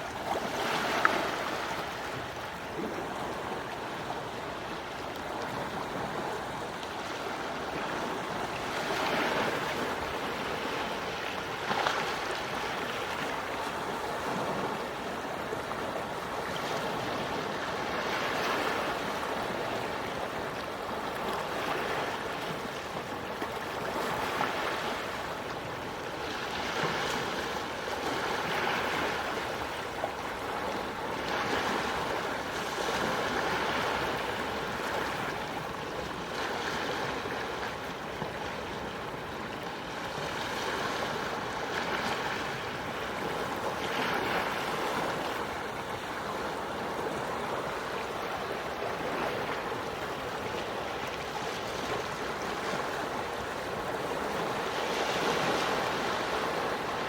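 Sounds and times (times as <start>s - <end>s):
gentle waves breaking: 0.0s - 57.0s.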